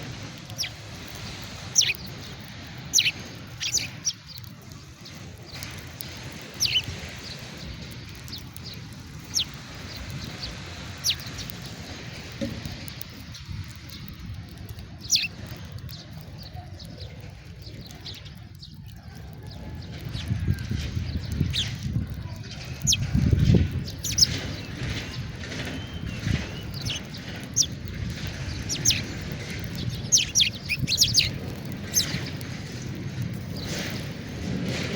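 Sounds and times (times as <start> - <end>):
sparrows chirping: 0.0 - 34.9
steady low rumble: 0.0 - 34.9.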